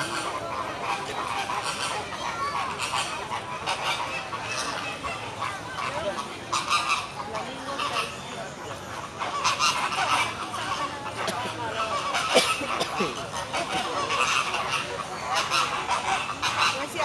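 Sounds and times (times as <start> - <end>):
background bird calls: 0.0 - 17.0
large birds calling loudly: 0.0 - 17.0.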